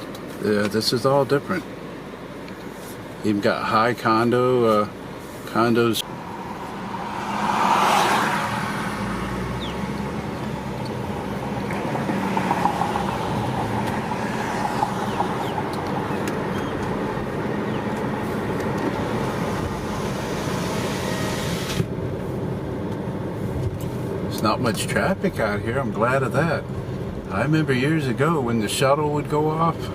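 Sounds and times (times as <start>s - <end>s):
car road and tyre noise: 0.0s - 29.9s.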